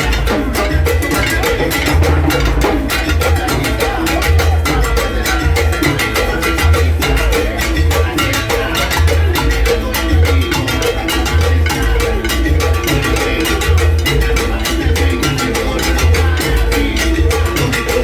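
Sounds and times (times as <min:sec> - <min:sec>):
live salsa music: 0:00.0 - 0:18.0.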